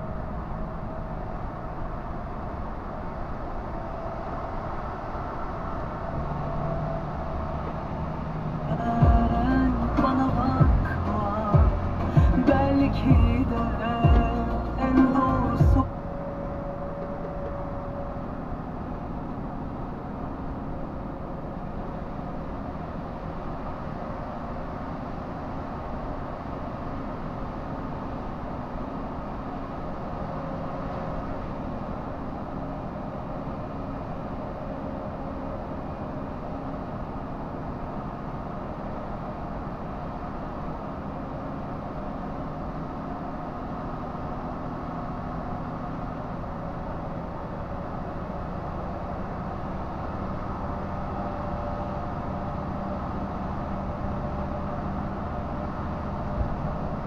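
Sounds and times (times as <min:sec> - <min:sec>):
road noise: 0:00.0 - 0:57.0
truck engine droning: 0:00.0 - 0:57.0.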